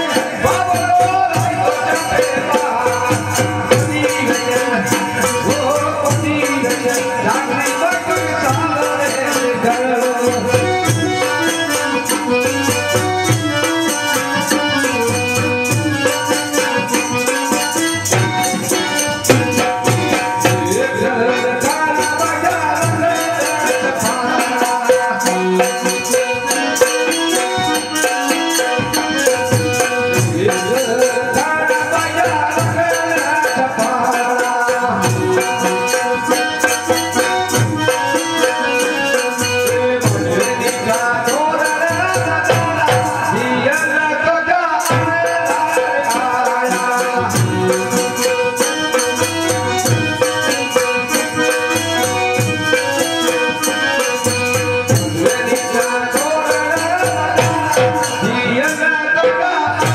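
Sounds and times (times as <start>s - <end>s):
harmonium chords: 0.0s - 59.9s.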